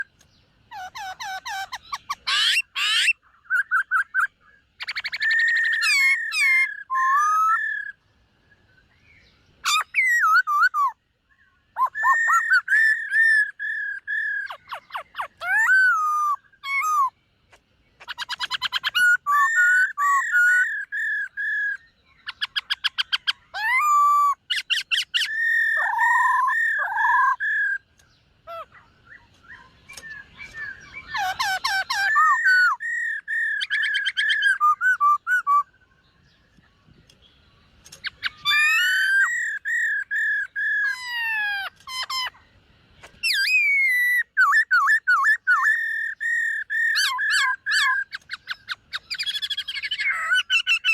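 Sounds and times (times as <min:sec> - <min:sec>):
bird singing whistled notes and trills: 0:00.0 - 0:50.9.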